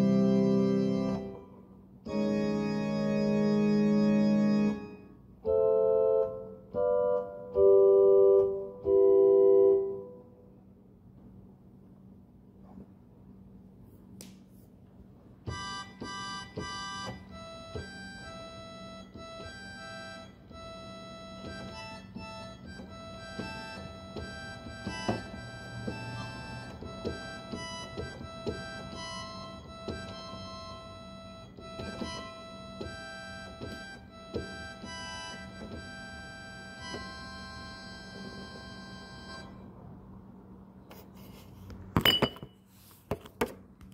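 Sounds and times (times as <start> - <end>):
electronic organ chords: 0.0 - 10.6, 15.4 - 40.3
steady low hum: 0.0 - 43.0.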